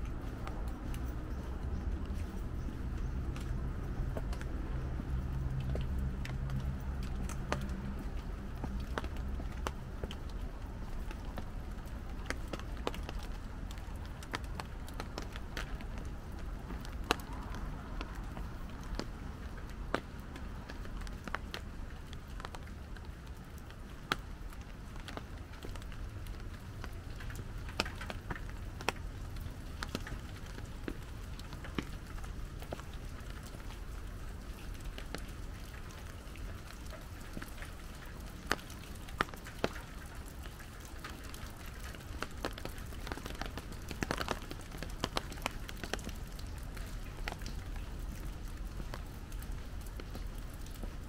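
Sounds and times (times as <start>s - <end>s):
drips ticking: 0.0s - 51.0s
light rain falling: 0.0s - 51.0s.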